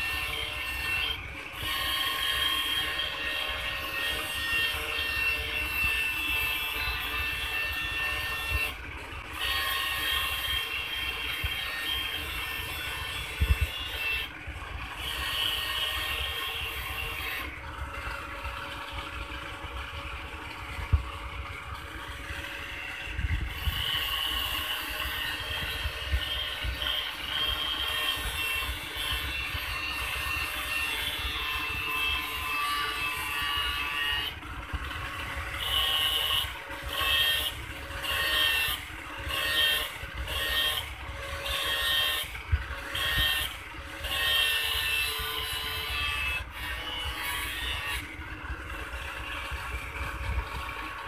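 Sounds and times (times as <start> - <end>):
angle grinder grinding steel: 0.0 - 51.0.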